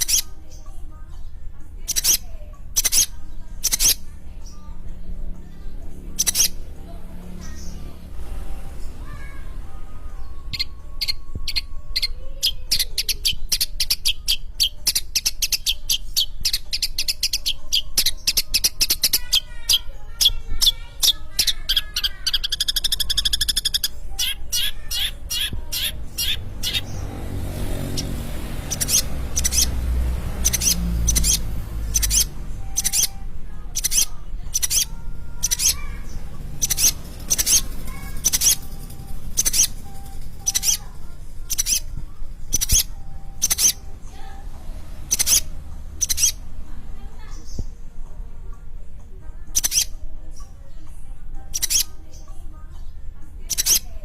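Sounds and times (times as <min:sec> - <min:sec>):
harsh bird calls: 0:00.0 - 0:00.8, 0:01.8 - 0:05.0, 0:05.7 - 0:46.7, 0:49.5 - 0:50.5, 0:51.5 - 0:52.3, 0:53.5 - 0:53.9
bird singing chattering notes: 0:00.0 - 0:00.9, 0:01.7 - 0:44.1, 0:44.8 - 0:46.6, 0:49.5 - 0:50.6, 0:51.4 - 0:52.4, 0:53.4 - 0:54.0.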